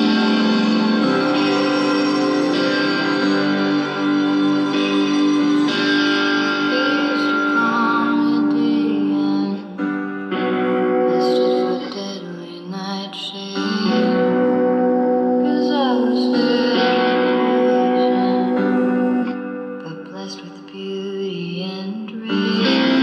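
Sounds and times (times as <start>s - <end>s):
electric guitar slow chords: 0.0s - 23.0s.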